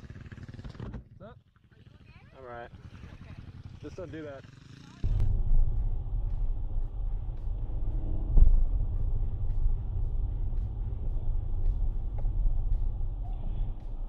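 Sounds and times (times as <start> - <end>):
car engine idling: 1.6 - 14.0.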